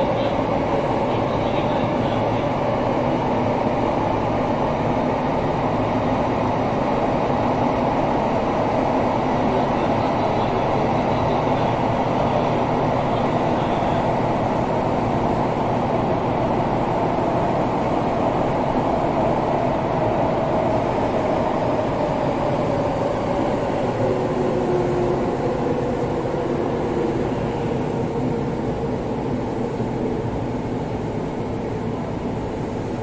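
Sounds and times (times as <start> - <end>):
train inverter whine: 0.0 - 33.0
wheels rumbling on rail: 0.0 - 33.0.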